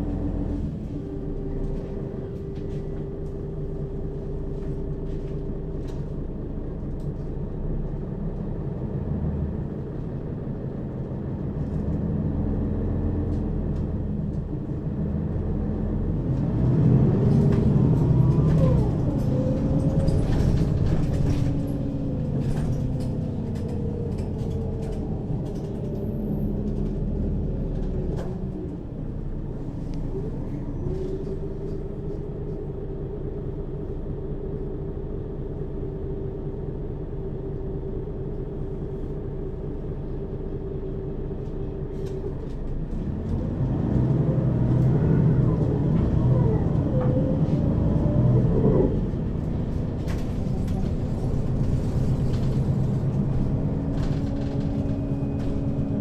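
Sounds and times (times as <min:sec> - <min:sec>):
bus engine from inside: 0:00.0 - 0:56.0.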